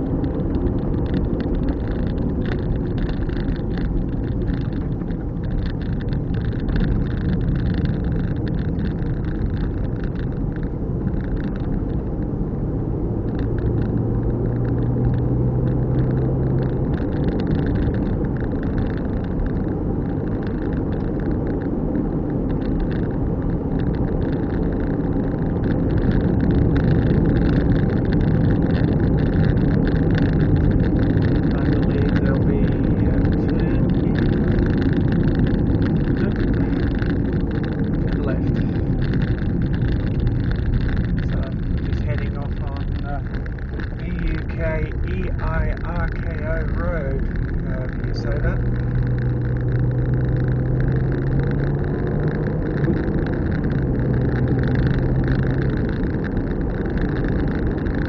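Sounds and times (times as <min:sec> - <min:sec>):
low steady hum: 0:00.0 - 0:52.0
car engine and tyre rumble: 0:00.0 - 0:58.0.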